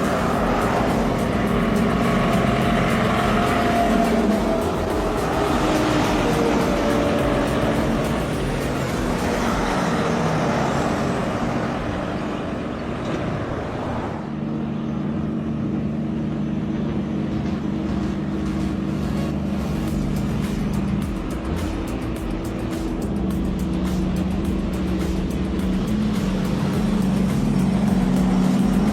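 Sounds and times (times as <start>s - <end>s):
broad rushing noise: 0.0s - 28.9s
heavy engine droning: 0.0s - 28.9s.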